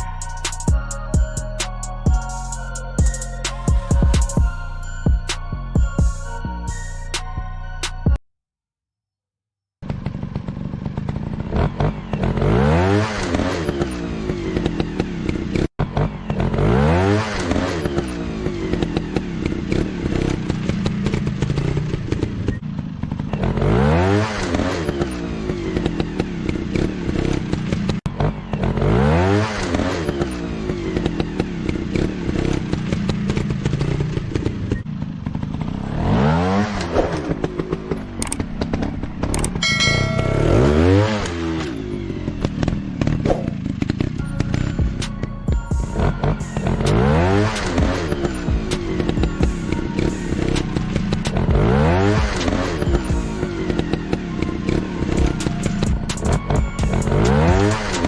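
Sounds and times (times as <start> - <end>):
dirt bike engines revving: 9.8 - 45.3, 45.9 - 58.0.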